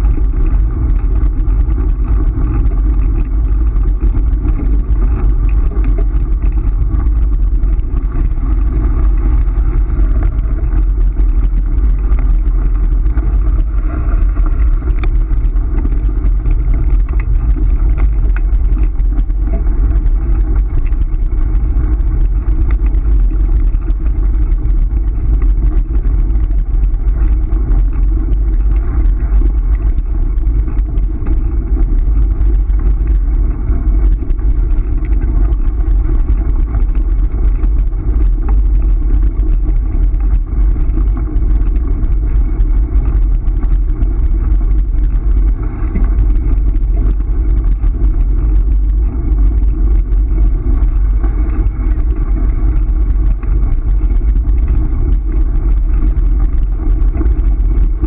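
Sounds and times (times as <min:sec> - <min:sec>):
small rattles and clicks: 0:00.0 - 0:58.0
tyres rolling over gravel: 0:00.0 - 0:58.0
wind buffeting microphone: 0:00.0 - 0:58.0.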